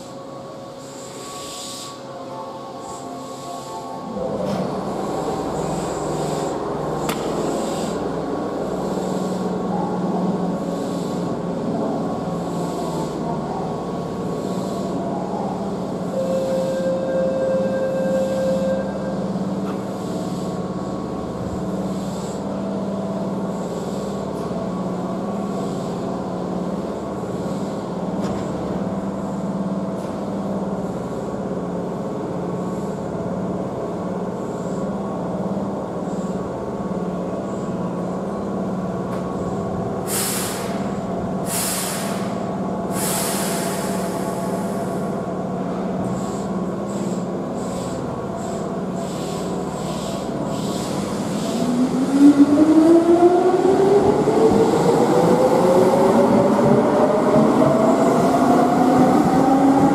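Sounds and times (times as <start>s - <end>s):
electric train equipment humming: 0.0s - 59.9s.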